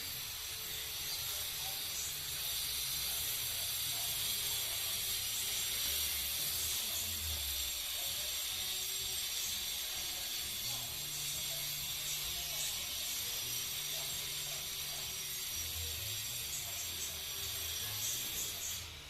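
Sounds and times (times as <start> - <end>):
steady high-pitched hiss: 0.0 - 19.0.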